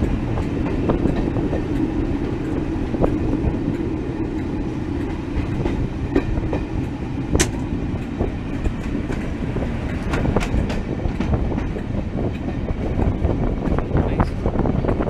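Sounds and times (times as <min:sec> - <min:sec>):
wheels clattering over rail joints: 0:00.0 - 0:14.0
diesel locomotive engine: 0:00.0 - 0:15.0
rail rumble: 0:00.0 - 0:15.0.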